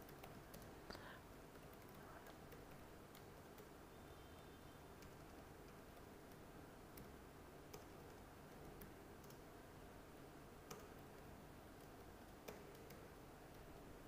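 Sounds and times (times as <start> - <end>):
computer keyboard keystrokes: 0.0 - 3.7, 5.0 - 9.5, 10.6 - 13.9
low steady hiss: 0.0 - 14.0.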